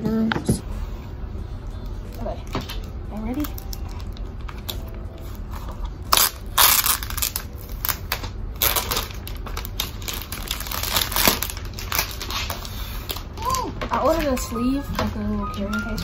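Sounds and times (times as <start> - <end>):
plastic wrap crinkling: 2.1 - 16.0.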